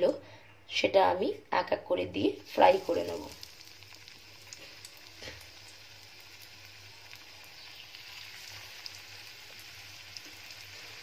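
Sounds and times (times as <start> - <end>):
paneer frying in oil: 2.0 - 11.0.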